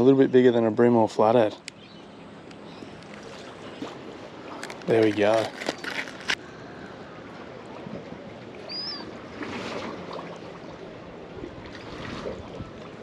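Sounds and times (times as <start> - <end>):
water lapping against wharf: 0.0 - 13.0.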